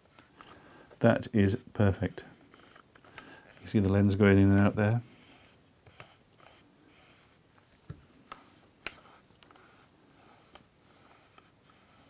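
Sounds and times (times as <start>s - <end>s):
lens focus ring rubbing: 1.9s - 12.0s.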